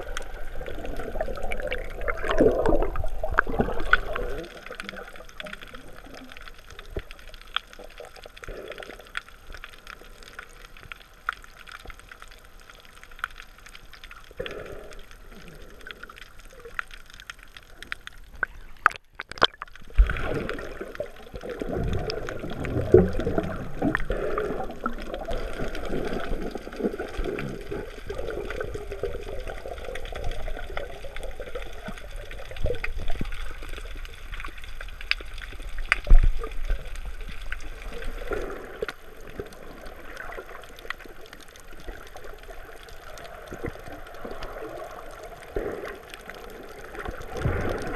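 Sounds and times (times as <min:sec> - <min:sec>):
underwater gurgling and bubbling: 0:00.0 - 0:47.9.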